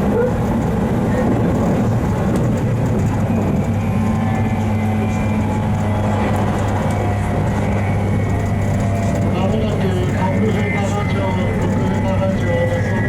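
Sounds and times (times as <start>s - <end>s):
electric train motor hum: 0.0s - 13.0s.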